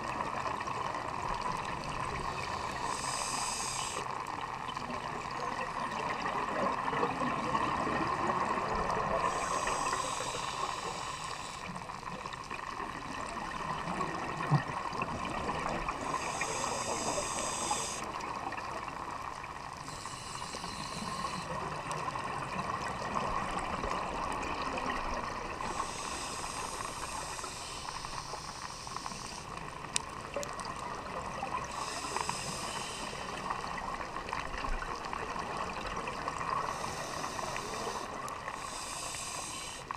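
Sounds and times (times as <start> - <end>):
exhaled bubbles rushing underwater: 0.0 - 11.1, 11.7 - 39.8
steady underwater hiss: 0.0 - 39.9.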